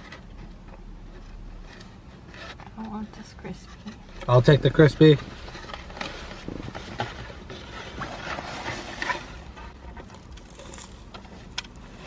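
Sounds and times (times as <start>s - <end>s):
croissant crackling and crunching: 0.0s - 12.0s.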